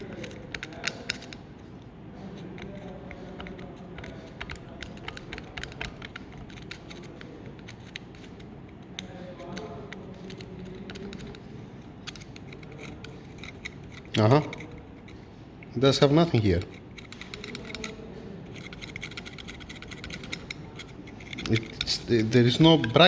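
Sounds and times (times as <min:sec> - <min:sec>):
hand tool being handled: 0:00.0 - 0:01.4, 0:02.4 - 0:23.0.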